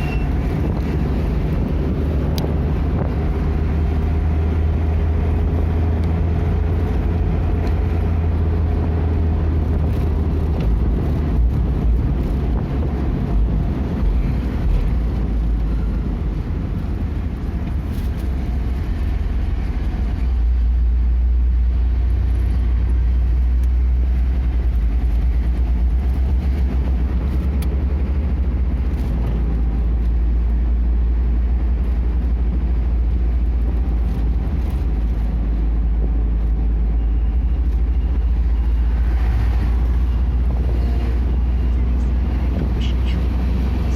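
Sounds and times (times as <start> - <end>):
vehicle road and engine rumble: 0.0 - 43.9.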